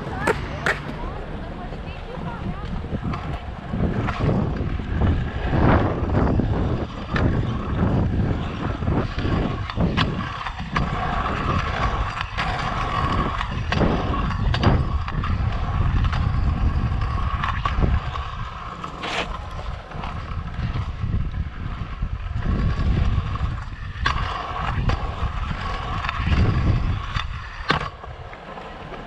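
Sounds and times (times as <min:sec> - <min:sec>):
scooter clicks and knocks: 0:00.0 - 0:29.0
scooter wheels rolling on asphalt: 0:00.0 - 0:29.0.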